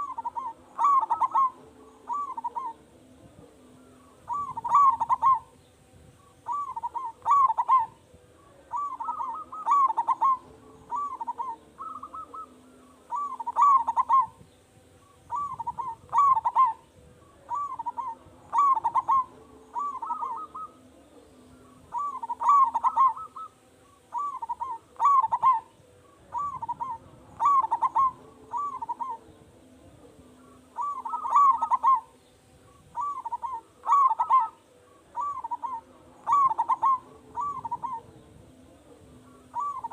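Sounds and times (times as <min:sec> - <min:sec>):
dove rolling coos: 0:00.0 - 0:02.8, 0:03.7 - 0:05.6, 0:06.4 - 0:14.4, 0:15.3 - 0:32.2, 0:32.9 - 0:39.9.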